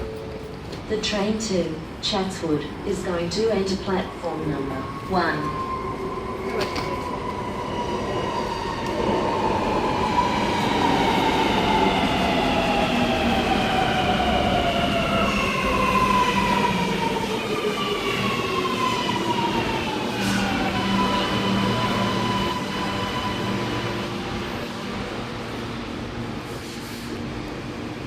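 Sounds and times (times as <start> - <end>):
metro train motors whining: 0.1 - 28.0.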